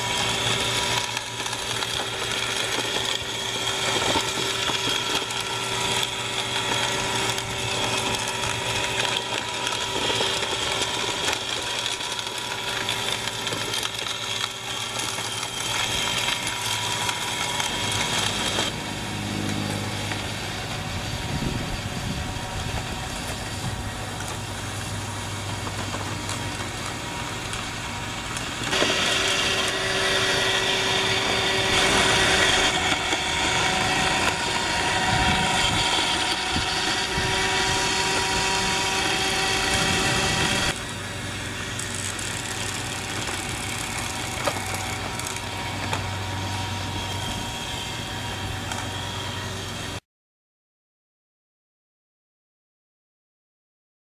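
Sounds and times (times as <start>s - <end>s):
robot vacuum whirring: 0.0s - 50.0s.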